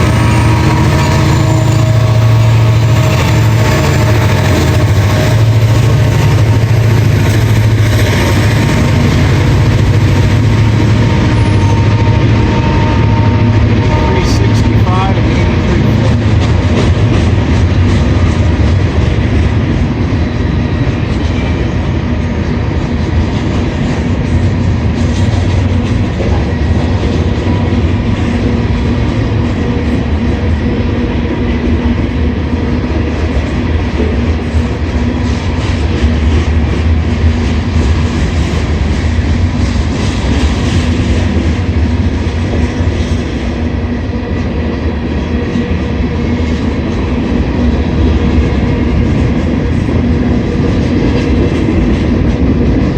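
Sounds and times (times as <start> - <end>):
freight train rumbling: 0.0 - 52.9.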